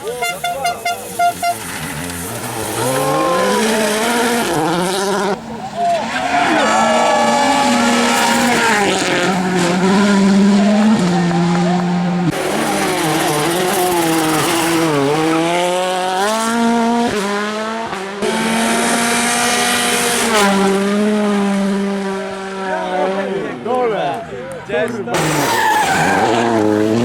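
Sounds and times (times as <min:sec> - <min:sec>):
rally car engine revving: 0:00.0 - 0:23.4, 0:25.1 - 0:27.0.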